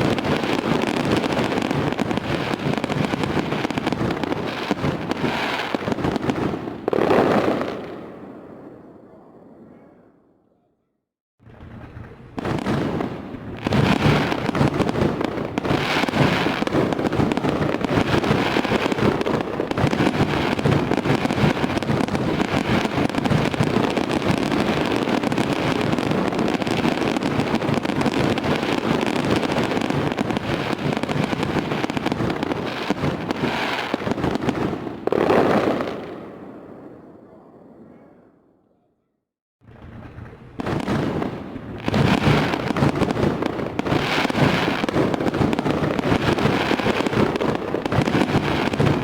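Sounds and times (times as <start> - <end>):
fireworks bangs and crackling: 0.0 - 9.8, 11.4 - 37.9, 39.6 - 49.0.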